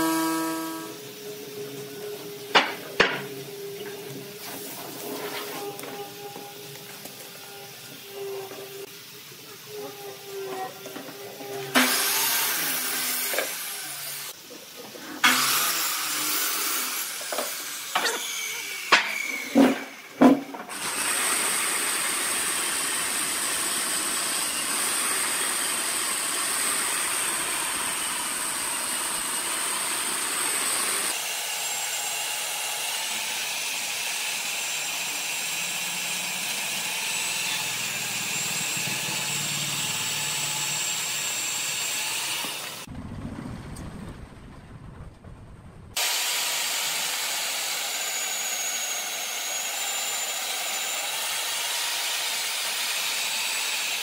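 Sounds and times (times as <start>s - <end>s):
electric chainsaw cutting log: 0.0s - 1.3s, 2.0s - 14.4s, 15.2s - 42.9s, 46.0s - 54.0s.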